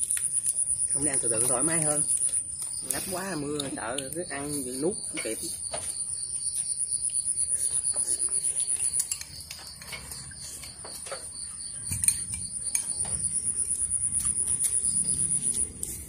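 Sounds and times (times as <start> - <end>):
chopsticks and spoons clicking on bowls: 0.0 - 5.9, 7.0 - 16.0
insect chirring: 0.0 - 16.0.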